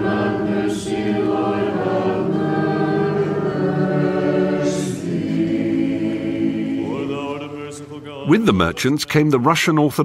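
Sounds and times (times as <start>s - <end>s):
choir singing chant a cappella: 0.0s - 9.4s.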